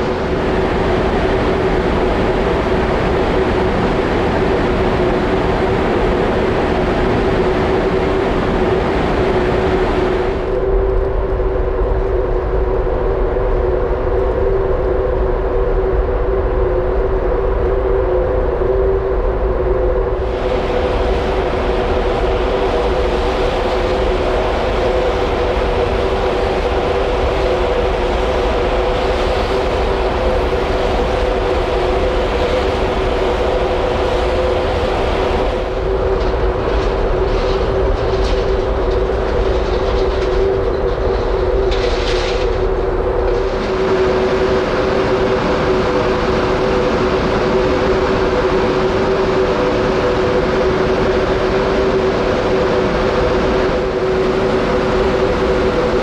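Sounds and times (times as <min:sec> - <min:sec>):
ferry machinery droning: 0:00.0 - 0:56.0.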